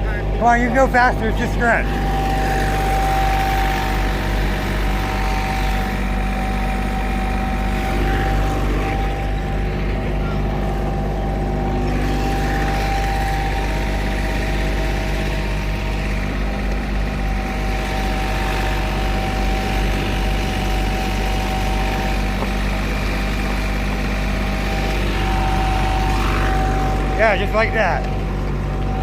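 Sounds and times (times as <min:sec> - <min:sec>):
constant high whine: 0:00.0 - 0:29.0
heavy diesel engine drone: 0:00.0 - 0:29.0.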